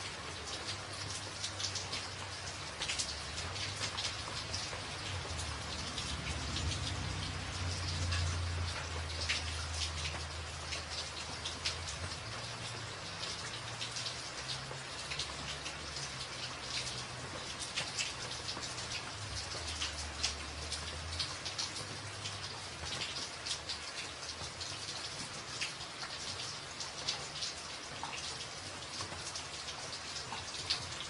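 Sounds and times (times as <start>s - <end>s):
rain drumming on a tin roof: 0.0s - 31.0s.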